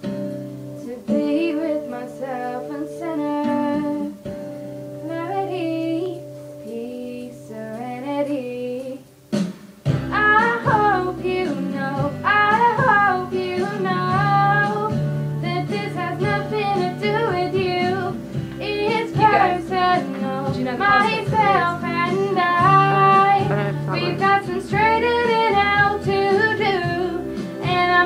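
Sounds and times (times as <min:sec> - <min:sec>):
instrumental backing track: 0:00.0 - 0:28.0
young woman singing pop ballad: 0:00.7 - 0:09.1, 0:09.9 - 0:28.0.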